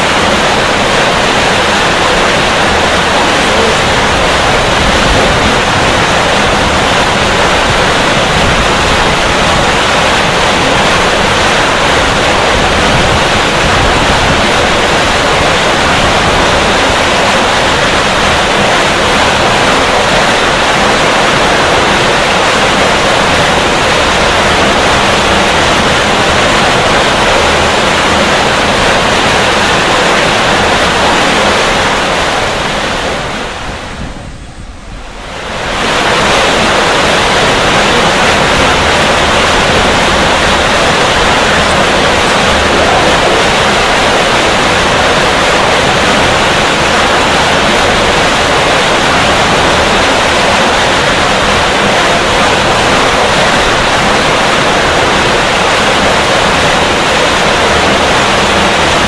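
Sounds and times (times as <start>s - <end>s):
water roaring down spillway: 0.0s - 59.0s.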